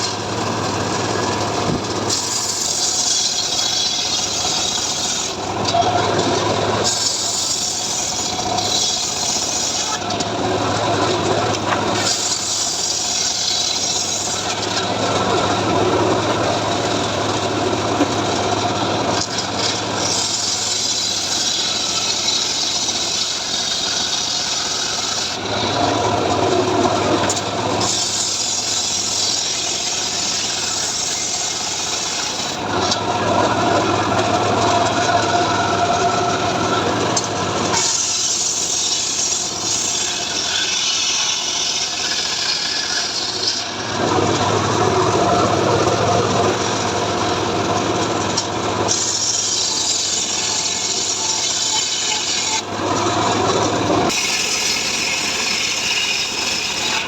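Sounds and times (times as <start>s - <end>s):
saw cutting timber: 0.0s - 57.0s
sawmill engine hum: 0.0s - 57.0s.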